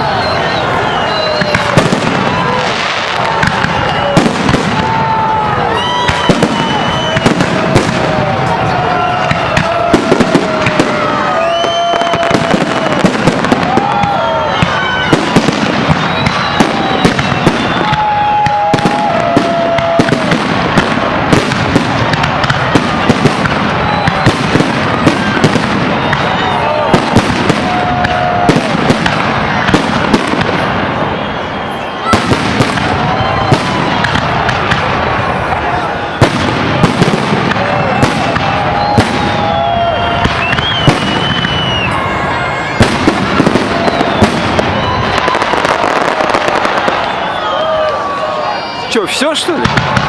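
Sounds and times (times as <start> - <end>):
firework bangs and crackling: 0.0 - 50.0
firework whistling: 0.0 - 50.0.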